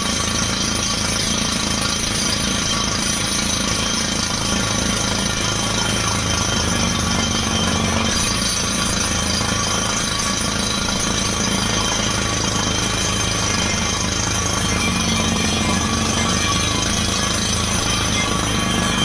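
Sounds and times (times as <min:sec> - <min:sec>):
drilling rig machinery noise: 0:00.0 - 0:19.0.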